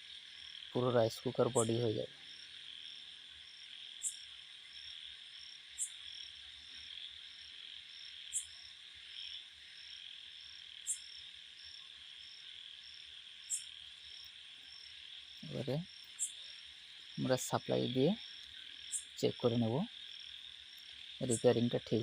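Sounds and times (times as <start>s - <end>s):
crickets and insects chirping: 0.0s - 22.0s.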